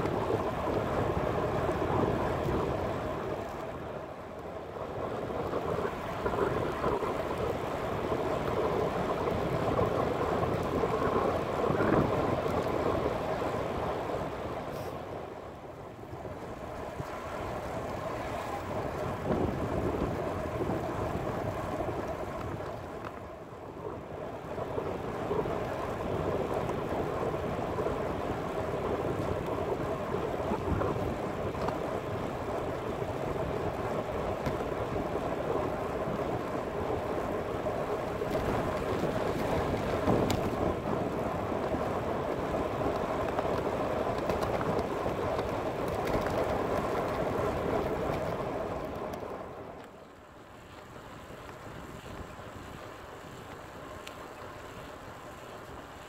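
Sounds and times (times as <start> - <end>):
wind buffeting microphone: 0.0 - 49.9
bicycle tyre road noise: 0.0 - 56.0.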